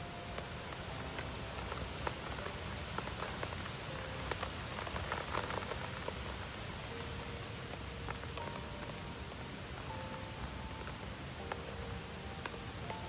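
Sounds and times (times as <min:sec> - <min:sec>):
steady rain falling: 0:00.0 - 0:13.0
campfire pops and crackles: 0:00.4 - 0:13.0.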